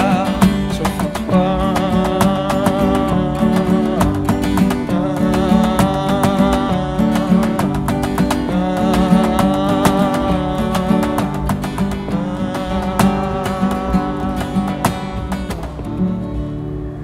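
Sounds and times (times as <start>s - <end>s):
acoustic guitars strumming chords: 0.0s - 17.0s.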